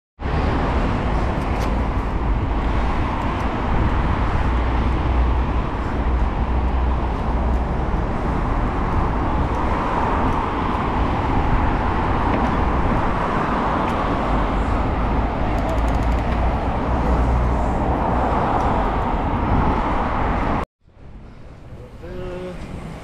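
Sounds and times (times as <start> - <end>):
wind buffeting microphone: 0.2 - 22.0.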